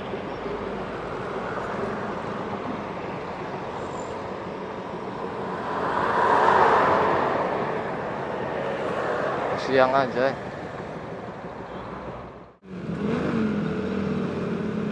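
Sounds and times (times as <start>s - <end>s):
road traffic: 0.0s - 14.9s.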